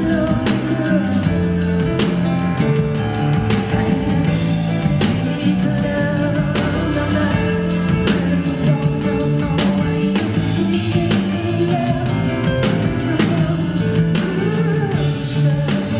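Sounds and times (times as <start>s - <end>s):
bass line: 0.0s - 15.9s.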